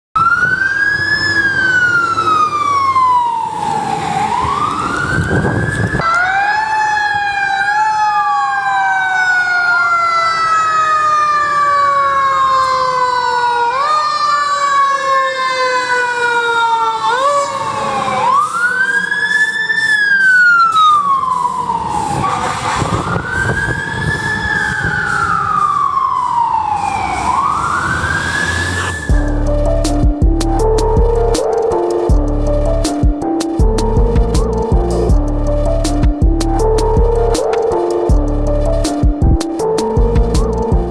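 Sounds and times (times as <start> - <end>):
fire truck sirens wailing: 0.2 - 40.9.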